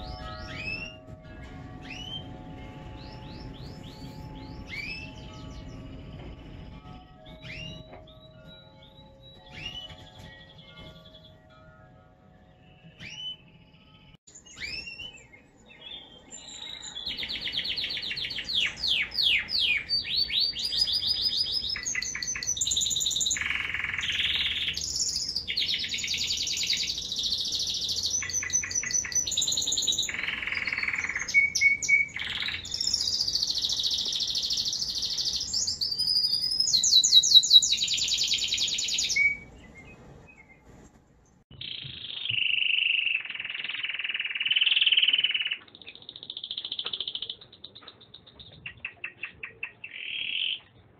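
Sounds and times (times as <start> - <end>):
canary singing trills: 0.0 - 11.7, 12.4 - 40.7, 41.5 - 50.9.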